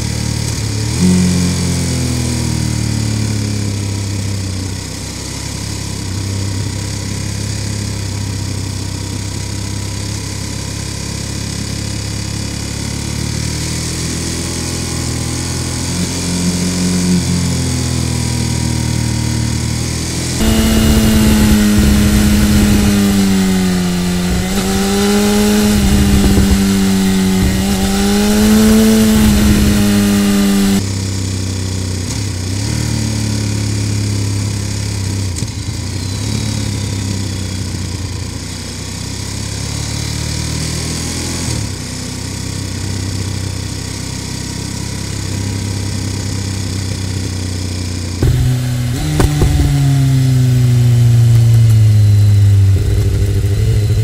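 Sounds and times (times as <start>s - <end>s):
motorcycle engine revving: 0.0s - 54.0s
motorcycle engine running low: 0.0s - 54.0s.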